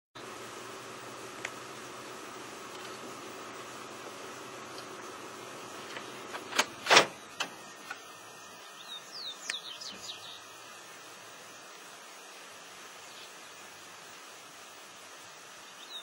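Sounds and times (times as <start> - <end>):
faint outdoor hiss: 0.2 - 16.0.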